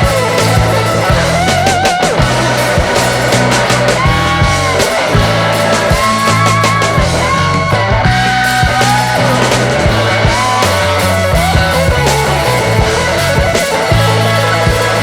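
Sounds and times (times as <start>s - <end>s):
rock music with loud guitars: 0.0s - 15.0s.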